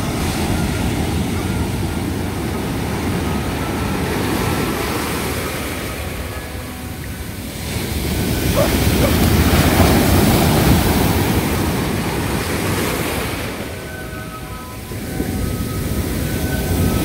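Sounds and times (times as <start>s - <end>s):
ocean wave breaking: 0.0s - 17.0s.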